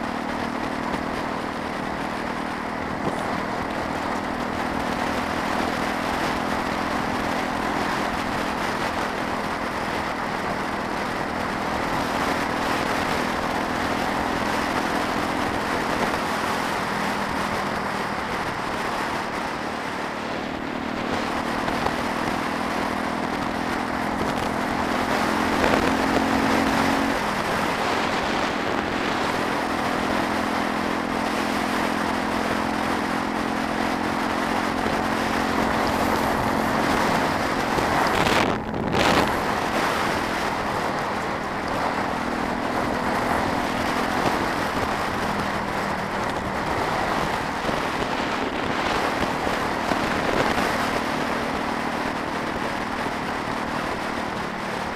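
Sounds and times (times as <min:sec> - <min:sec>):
motorcycle engine running: 0:00.0 - 0:54.9
wind rush over microphone: 0:00.0 - 0:54.9.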